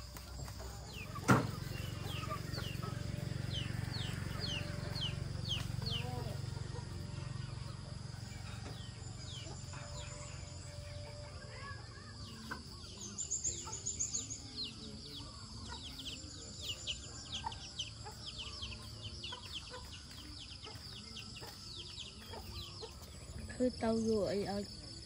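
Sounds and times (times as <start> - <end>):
chickens clucking and chirping: 0.0 - 25.0.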